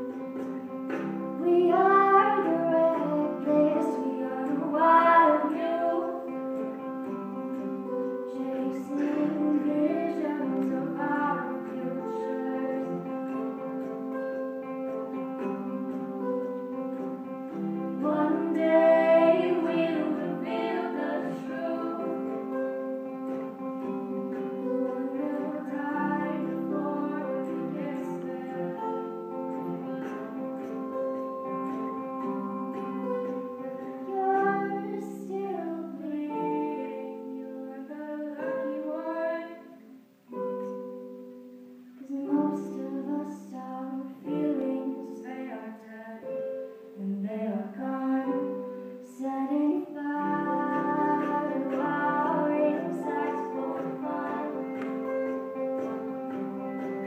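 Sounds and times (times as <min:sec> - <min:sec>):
live concert music with singing: 0:00.0 - 0:39.6, 0:48.3 - 0:57.0.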